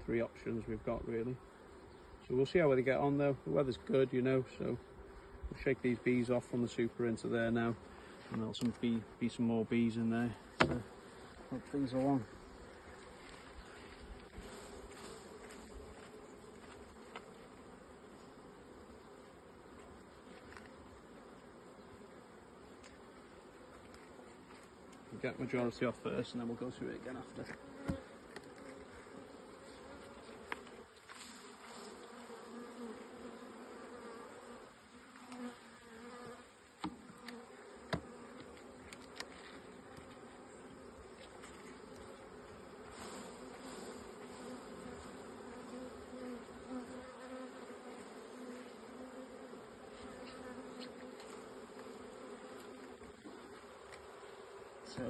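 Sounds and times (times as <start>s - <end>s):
bees buzzing: 0.1s - 55.0s.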